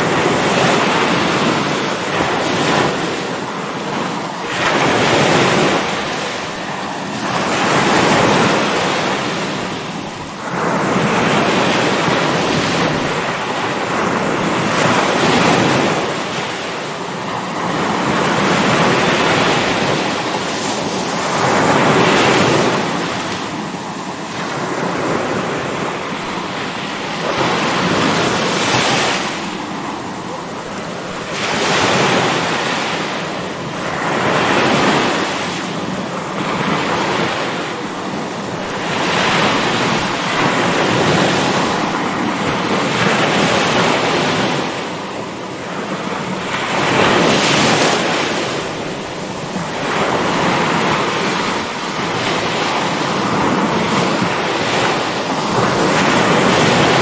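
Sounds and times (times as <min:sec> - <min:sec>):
rough waves breaking: 0:00.0 - 0:57.0.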